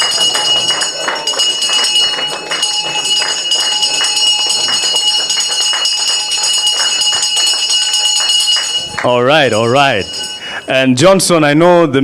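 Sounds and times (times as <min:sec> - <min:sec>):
bell ringing rapidly: 0:00.0 - 0:11.0.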